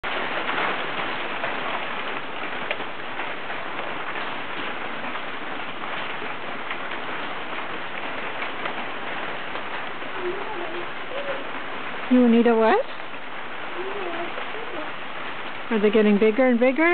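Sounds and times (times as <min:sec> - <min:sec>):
hail falling: 0:00.0 - 0:16.9
hailstones ticking: 0:00.0 - 0:16.9.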